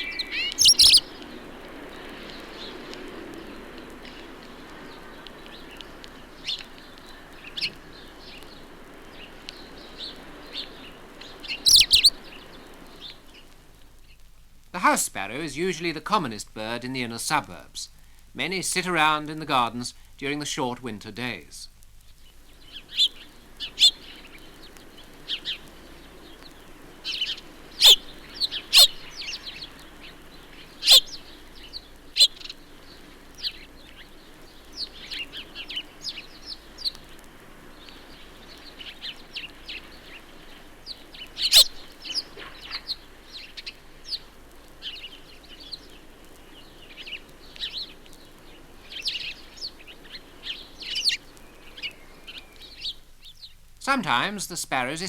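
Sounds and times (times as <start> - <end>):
sparrows chirping: 0.0 - 14.2, 22.0 - 55.0.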